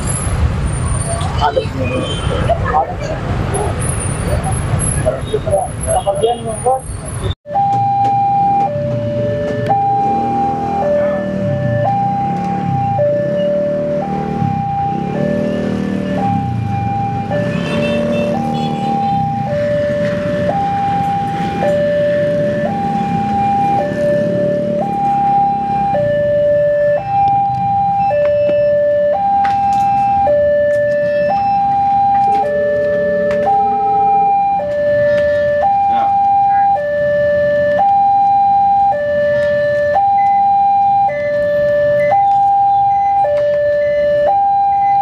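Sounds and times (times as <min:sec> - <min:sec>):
low road traffic rumble: 0:00.0 - 0:45.0
level crossing two-tone alarm: 0:07.5 - 0:45.0.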